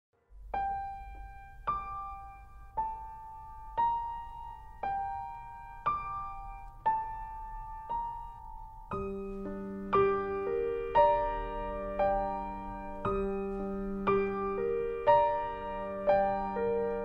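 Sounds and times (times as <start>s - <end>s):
slow piano melody: 0.2s - 17.0s.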